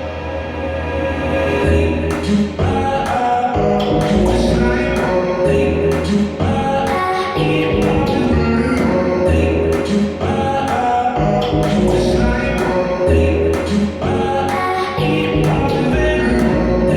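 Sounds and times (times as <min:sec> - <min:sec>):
music with singing over a beat: 0:01.6 - 0:16.9.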